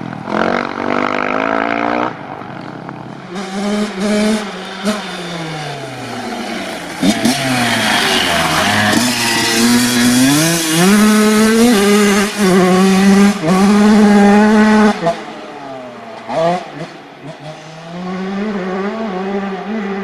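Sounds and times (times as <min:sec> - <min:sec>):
dirt bike engine revving: 0:00.2 - 0:02.2, 0:03.2 - 0:20.0.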